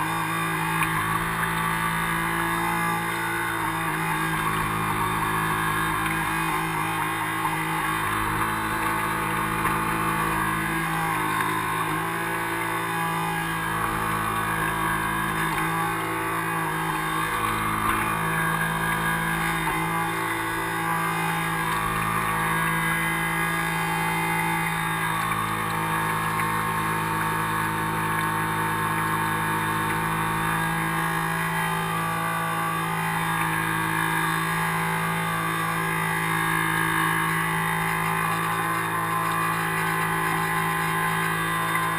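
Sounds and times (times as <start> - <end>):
electric motor humming: 0.0 - 41.9.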